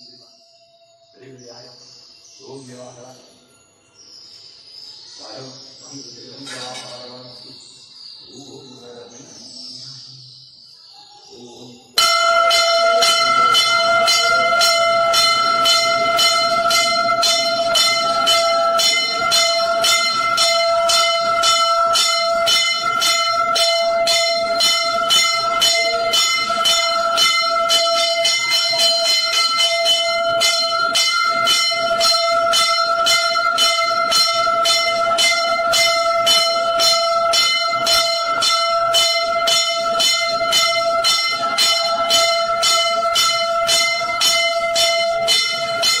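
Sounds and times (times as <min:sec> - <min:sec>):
temple bells ringing fast: 0:00.0 - 0:09.6, 0:11.3 - 0:46.0.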